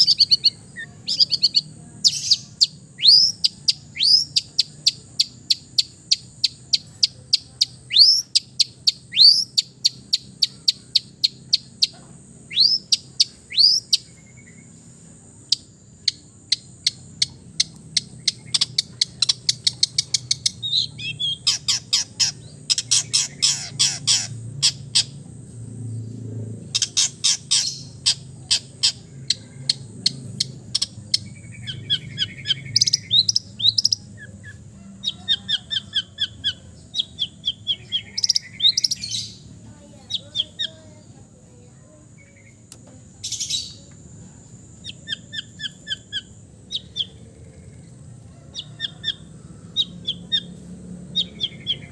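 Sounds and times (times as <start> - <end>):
shrike singing: 0.0 - 51.9.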